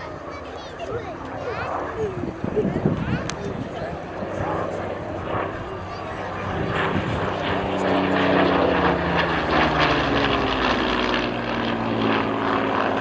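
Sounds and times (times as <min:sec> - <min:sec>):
propeller plane engine flying past: 0:00.0 - 0:13.0.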